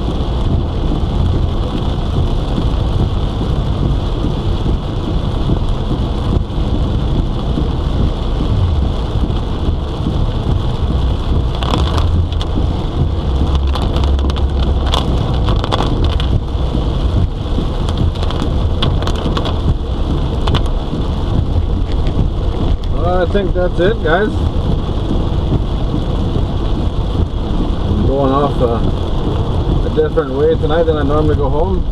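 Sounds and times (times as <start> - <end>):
deep rumble: 0.0 - 31.9
heavy rain on a car: 0.0 - 31.9.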